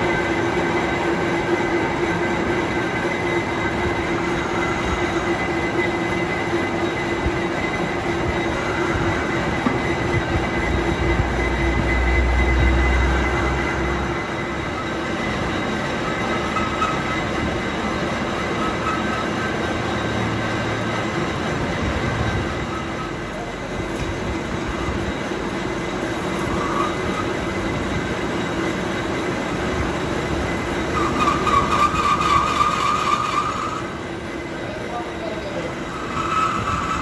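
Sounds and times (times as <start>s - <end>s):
workshop machinery running: 0.0s - 37.0s
high-pitched squeal: 2.5s - 37.0s.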